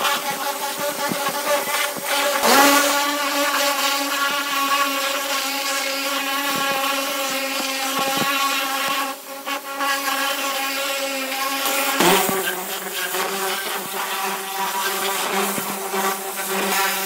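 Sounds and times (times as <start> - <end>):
pressure washer motor hum: 0.0 - 17.0
water spray hissing on metal: 0.0 - 17.0.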